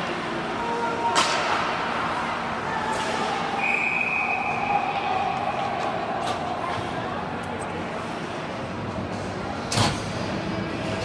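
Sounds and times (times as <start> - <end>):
arena crowd ambience: 0.0 - 11.0.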